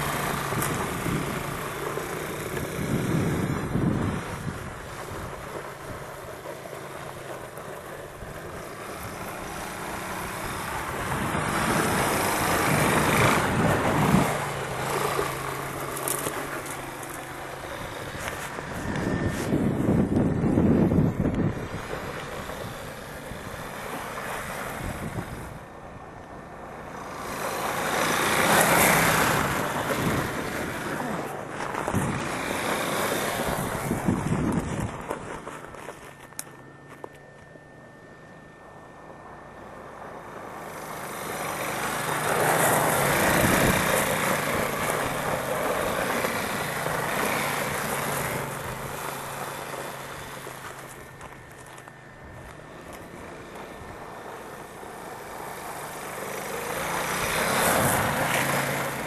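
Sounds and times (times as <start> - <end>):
small quad engine running: 0.0 - 59.0.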